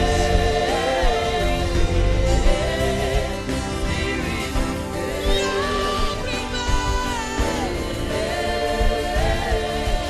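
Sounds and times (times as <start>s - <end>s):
gospel singing: 0.0s - 10.0s
instrumental backing with a beat: 0.0s - 10.0s.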